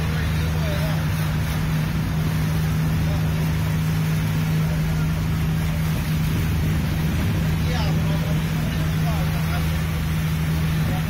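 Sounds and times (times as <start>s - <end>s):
ferry engine drone: 0.0s - 11.0s
water rushing along hull: 0.0s - 11.0s.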